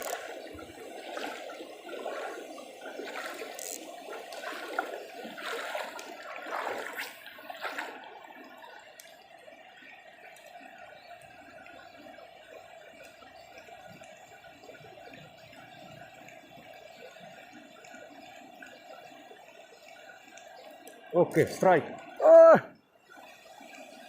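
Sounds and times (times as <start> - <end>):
river water flowing and splashing: 0.0 - 24.0.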